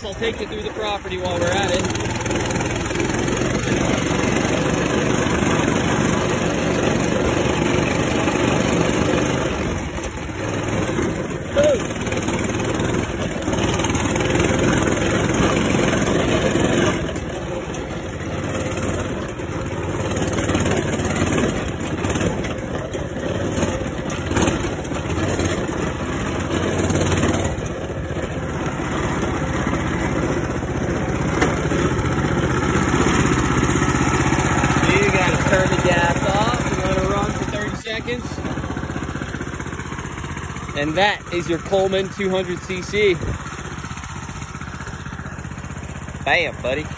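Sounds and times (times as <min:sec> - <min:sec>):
mini bike engine revving: 0:00.0 - 0:46.9.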